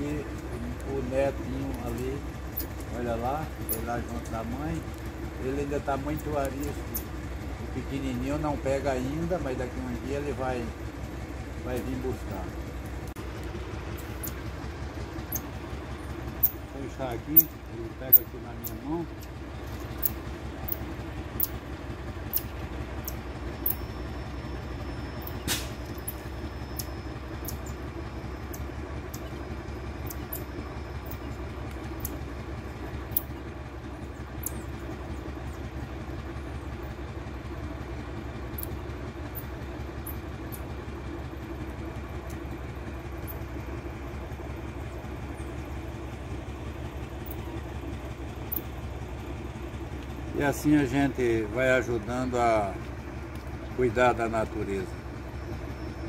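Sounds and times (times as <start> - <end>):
low mechanical drone: 0.0 - 56.0.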